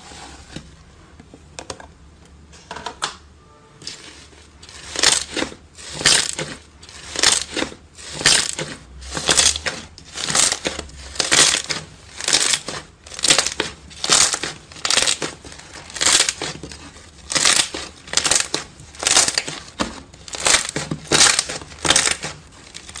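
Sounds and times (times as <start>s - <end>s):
slime kneading crunch: 3.9s - 23.0s.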